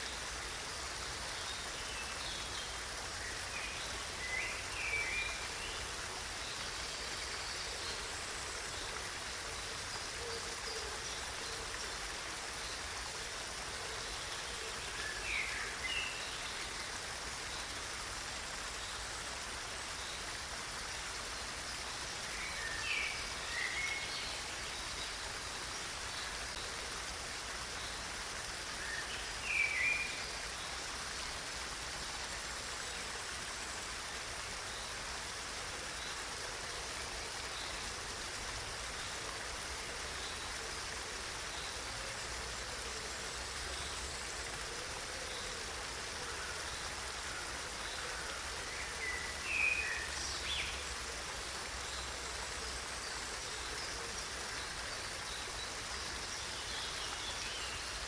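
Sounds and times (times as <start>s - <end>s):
stream running water: 0.0s - 58.0s.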